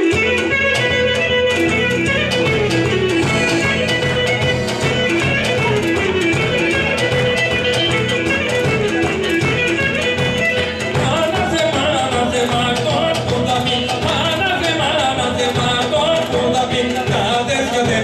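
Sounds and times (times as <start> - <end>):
folk dance music: 0.0 - 18.0.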